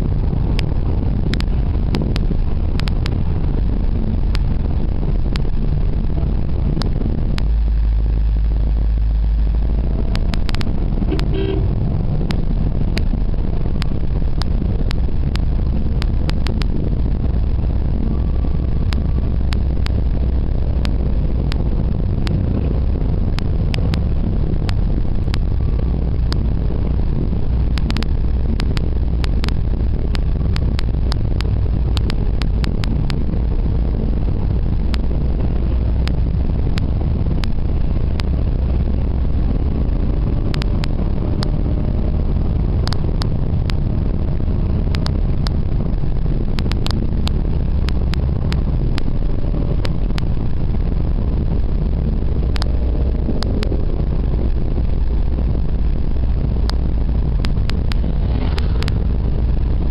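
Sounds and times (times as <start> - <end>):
sharp clicks and rattles: 0.0 - 17.8, 18.6 - 59.9
road and wind noise: 0.0 - 59.9
vehicle rumble from inside cabin: 0.0 - 59.9.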